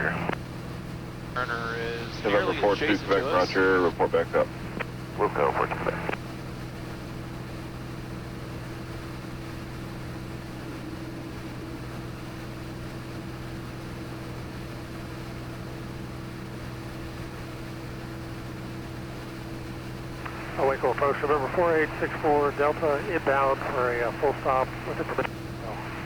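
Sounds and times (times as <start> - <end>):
aircraft engine and propeller droning: 0.0 - 26.0.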